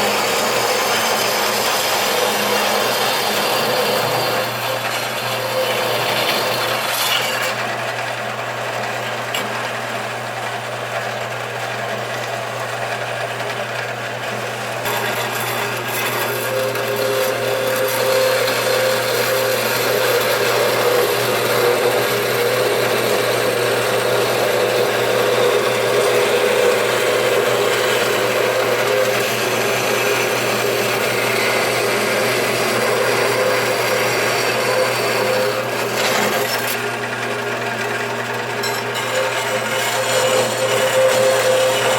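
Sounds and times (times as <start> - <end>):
band saw cutting metal: 0.0 - 41.9.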